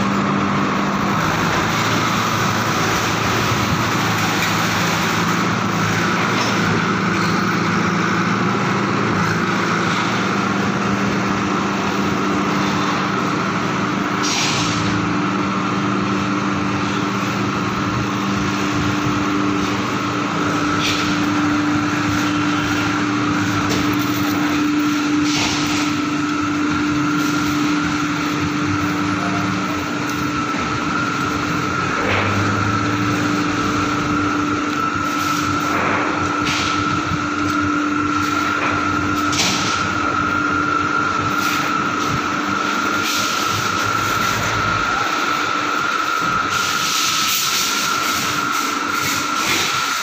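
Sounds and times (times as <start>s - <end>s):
industrial machinery drone: 0.0s - 50.0s.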